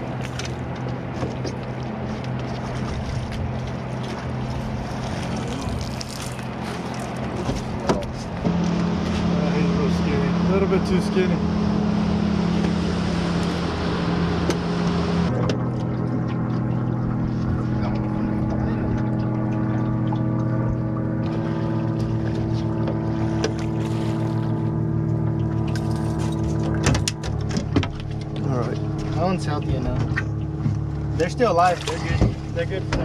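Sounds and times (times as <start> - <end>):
boat motor humming: 0.0 - 33.0.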